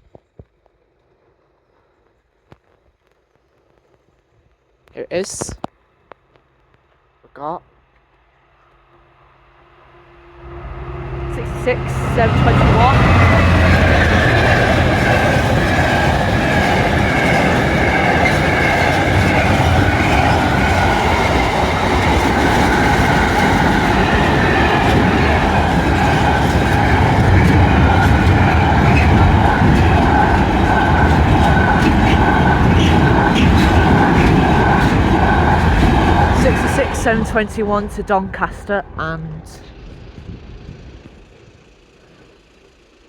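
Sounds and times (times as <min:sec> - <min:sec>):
train wheels rumbling on rails: 0:08.2 - 0:43.0.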